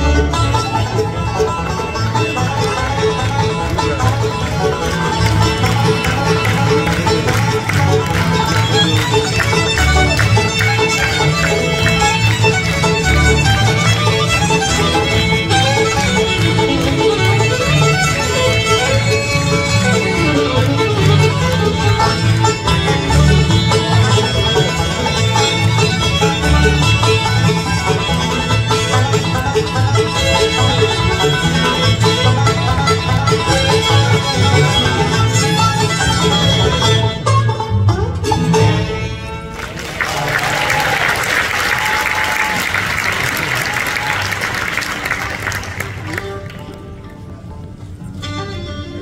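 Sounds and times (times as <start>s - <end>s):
fiddle: 0.0s - 39.8s, 41.4s - 49.0s
upright bass: 0.0s - 41.0s
banjo rolls: 0.0s - 49.0s.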